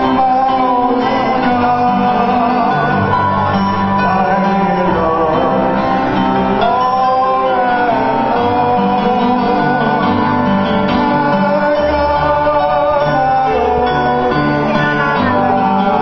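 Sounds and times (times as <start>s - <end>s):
acoustic guitar: 0.0s - 16.0s
man singing into microphone: 0.0s - 16.0s.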